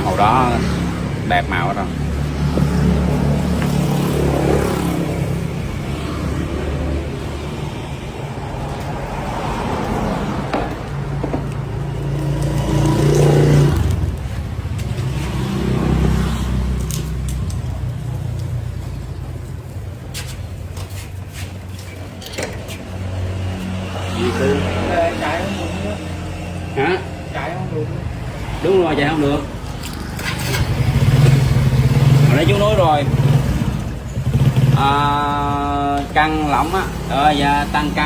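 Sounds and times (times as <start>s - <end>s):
scooter engine revving: 0.0s - 8.4s, 9.2s - 17.9s, 23.0s - 38.0s.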